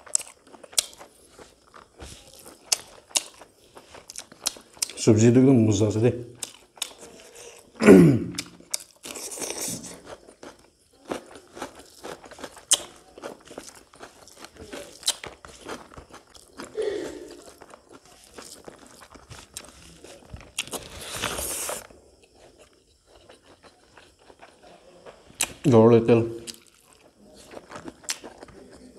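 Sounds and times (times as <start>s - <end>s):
chewing: 0.0s - 5.0s, 6.3s - 25.7s, 26.4s - 28.9s
crunching cucumber bites: 0.0s - 5.1s, 6.3s - 28.9s.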